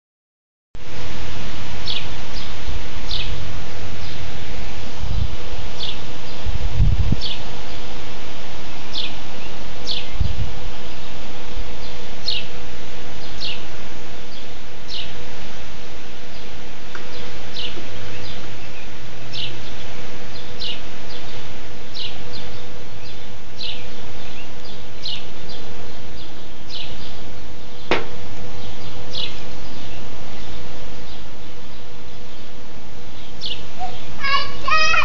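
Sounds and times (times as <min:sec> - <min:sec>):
steady hiss: 0:00.8 - 0:35.0.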